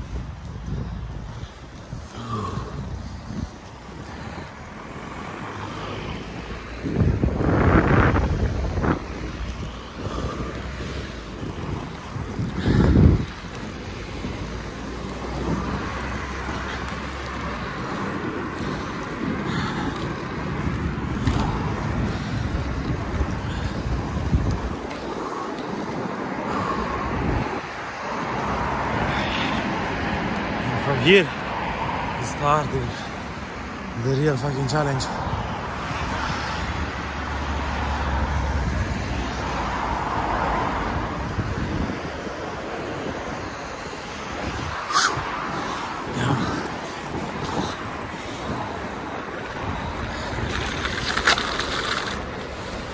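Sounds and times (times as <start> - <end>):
highway traffic hiss: 0.0 - 52.9
inline skate wheels rolling on asphalt: 0.0 - 52.9
wind buffeting microphone: 0.0 - 52.9.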